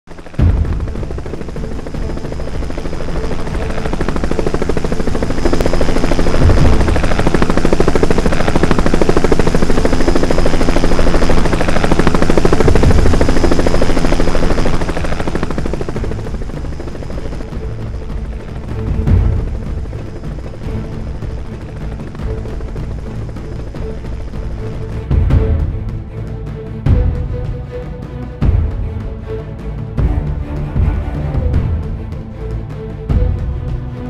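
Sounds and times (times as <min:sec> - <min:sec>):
helicopter rotor chopping: 0:00.1 - 0:34.0.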